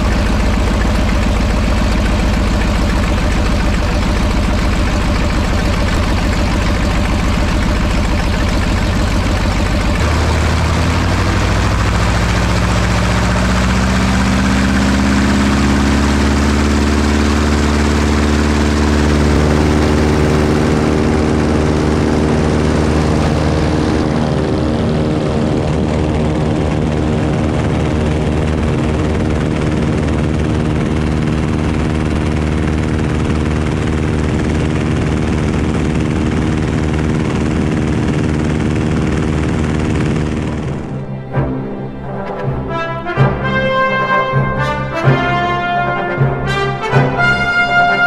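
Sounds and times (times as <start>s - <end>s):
radial engine and propeller: 0.0s - 48.0s.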